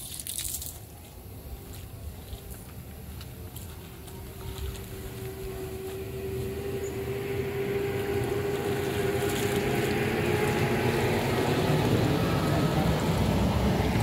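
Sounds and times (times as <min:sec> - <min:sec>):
motor-like hum: 0:00.6 - 0:14.0.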